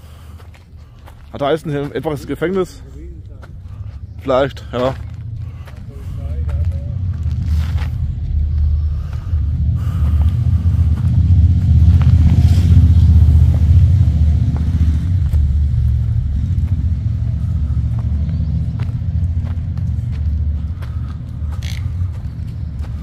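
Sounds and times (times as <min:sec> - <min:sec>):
loud low rumble: 0:00.0 - 0:23.0.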